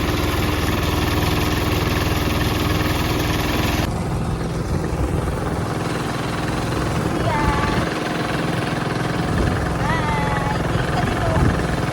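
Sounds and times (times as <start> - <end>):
tractor engine chugging: 0.0 - 11.9.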